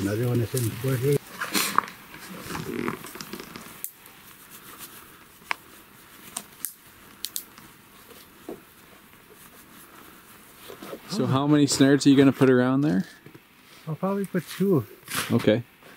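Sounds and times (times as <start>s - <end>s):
faint rustling: 0.0s - 15.9s.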